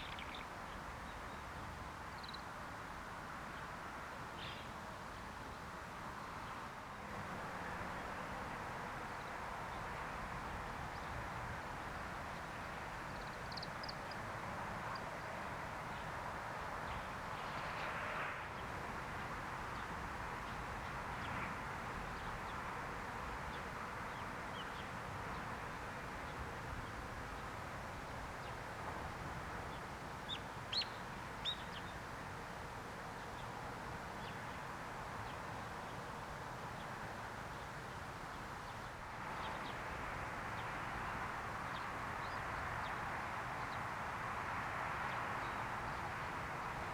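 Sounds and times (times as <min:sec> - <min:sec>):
outdoor background hiss: 0:00.0 - 0:46.9.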